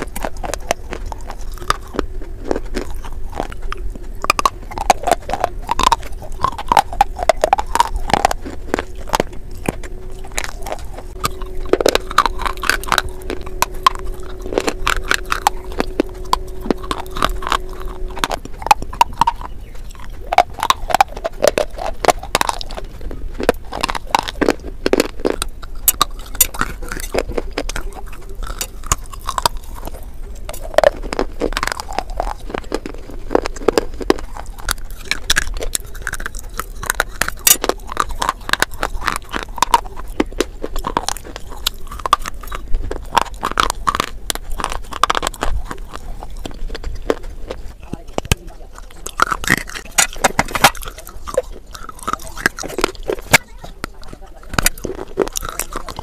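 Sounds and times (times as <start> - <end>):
crunching and chewing: 0.0 - 56.0
faint steady hum: 0.0 - 56.0
wet mouth sounds: 0.0 - 56.0.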